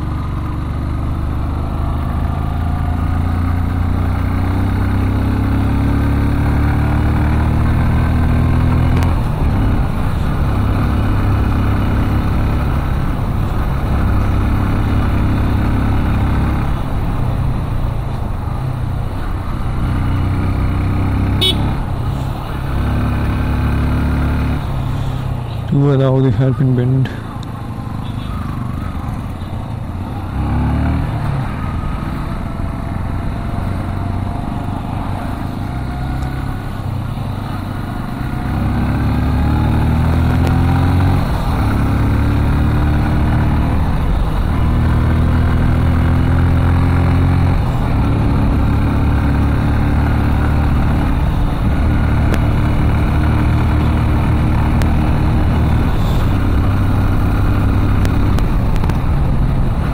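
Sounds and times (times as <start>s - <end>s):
vehicle engine shifting gears: 0.0s - 59.9s.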